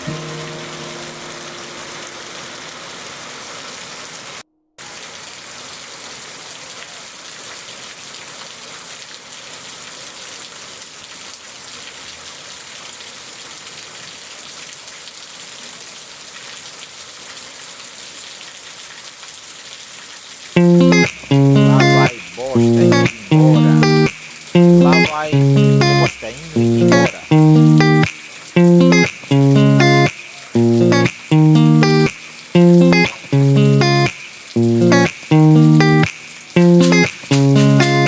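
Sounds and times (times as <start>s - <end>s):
rain splashing on hard surfaces: 0.0s - 38.0s.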